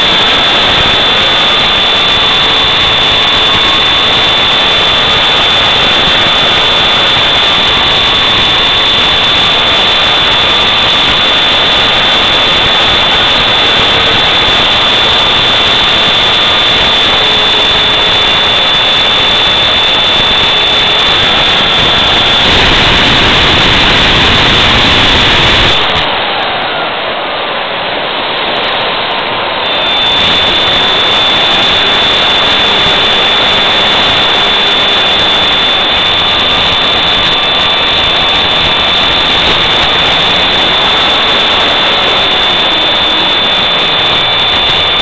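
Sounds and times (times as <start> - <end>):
propeller and wind rushing: 0.0 - 26.8, 28.1 - 45.0
constant high-pitched tone: 0.0 - 45.0
faint motor whine: 0.0 - 45.0.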